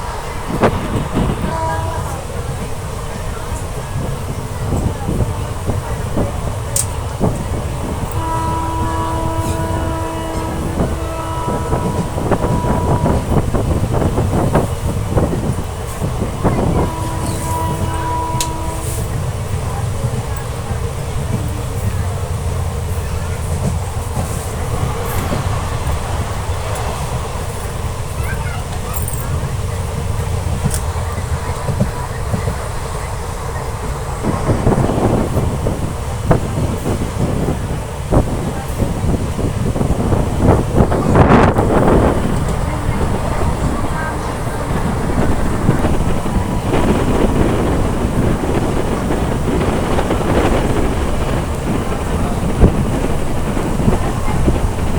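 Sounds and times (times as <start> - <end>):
train low rumble: 0.0 - 54.9
train wheels clattering on track: 0.0 - 54.9.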